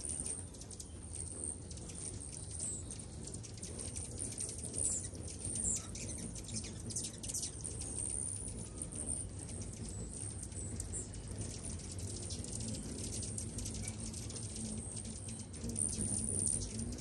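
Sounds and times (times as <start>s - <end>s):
hummingbirds chittering: 0.0s - 17.0s.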